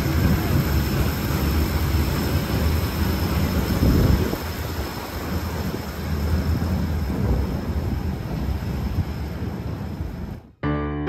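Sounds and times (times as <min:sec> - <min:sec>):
electric train rumbling past: 0:00.0 - 0:10.7.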